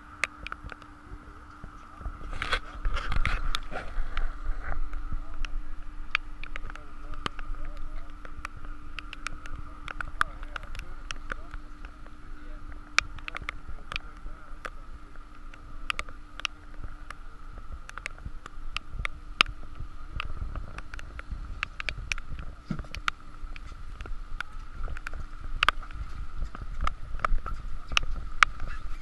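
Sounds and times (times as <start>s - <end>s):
boat engine hum and rumble: 0.0s - 29.0s
sharp clicks and knocks: 1.5s - 29.0s.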